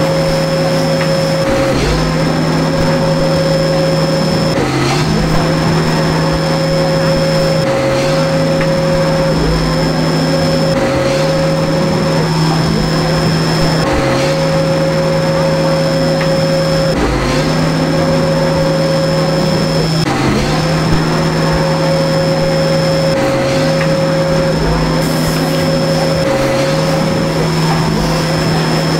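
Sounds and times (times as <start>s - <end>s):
milling machine hum with high whine: 0.0s - 28.9s.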